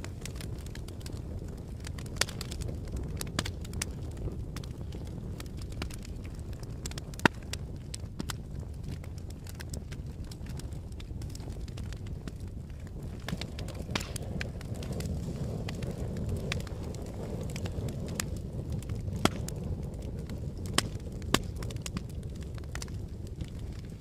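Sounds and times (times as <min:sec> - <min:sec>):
fire crackling with pops: 0:00.0 - 0:24.0.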